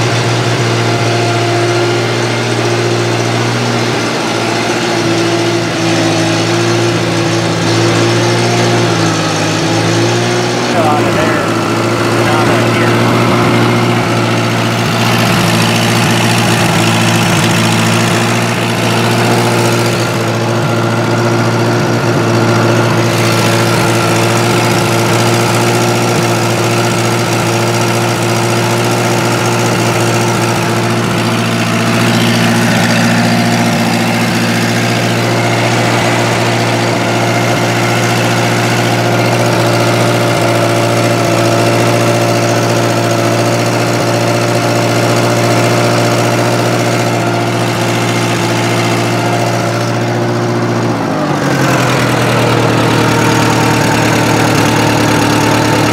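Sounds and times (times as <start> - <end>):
gasoline engine idling: 0.0 - 55.9.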